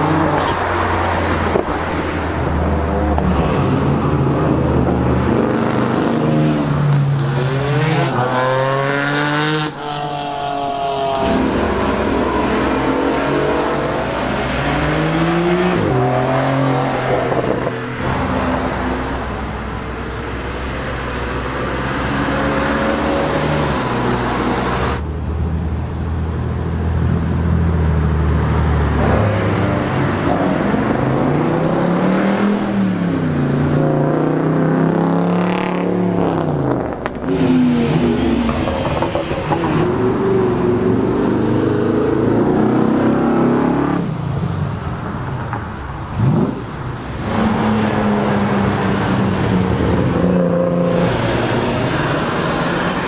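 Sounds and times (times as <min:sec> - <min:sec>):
cars driving past: 0:00.0 - 0:53.0.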